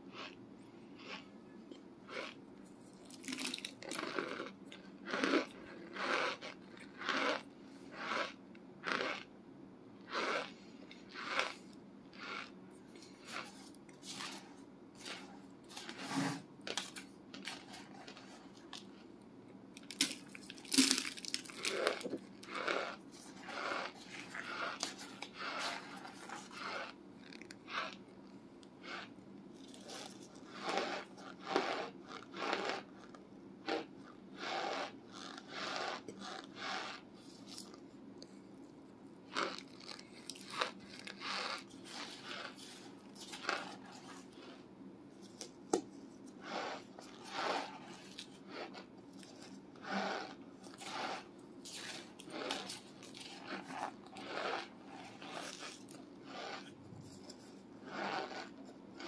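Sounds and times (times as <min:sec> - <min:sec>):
dry crunching while chewing: 0:01.0 - 0:01.3, 0:02.1 - 0:09.3, 0:10.0 - 0:19.0, 0:19.8 - 0:28.2, 0:28.8 - 0:37.8, 0:39.3 - 0:44.6, 0:45.2 - 0:59.0.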